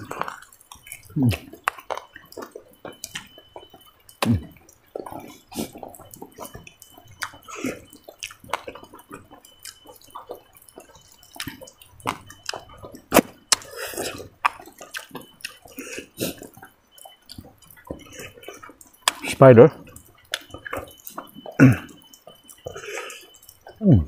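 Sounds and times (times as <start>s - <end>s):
wet lip smacks and clicks: 0.0s - 23.8s
man chewing food: 0.0s - 24.0s.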